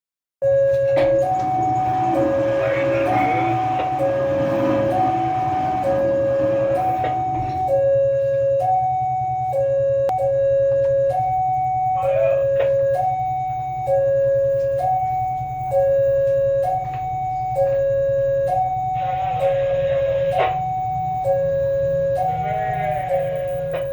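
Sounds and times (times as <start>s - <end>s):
two-tone warning alarm: 0.4s - 23.9s
steady low rumble: 0.5s - 23.9s.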